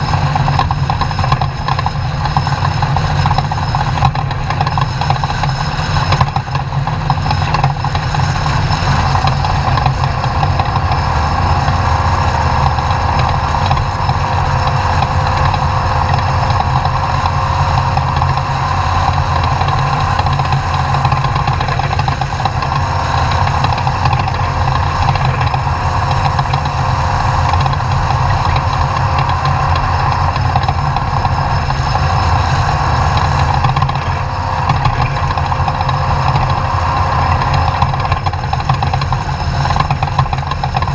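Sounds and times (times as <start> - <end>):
truck engine running steadily: 0.0 - 40.9.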